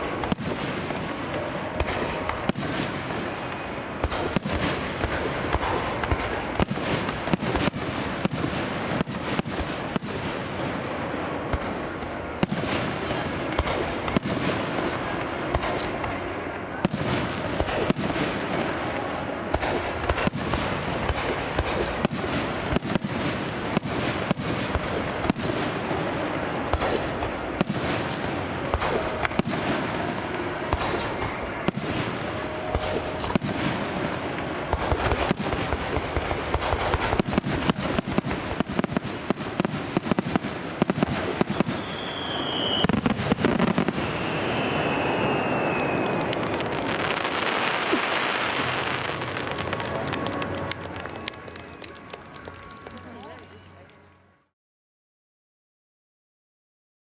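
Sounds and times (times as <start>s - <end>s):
fireworks cracking and popping: 0.0s - 54.2s.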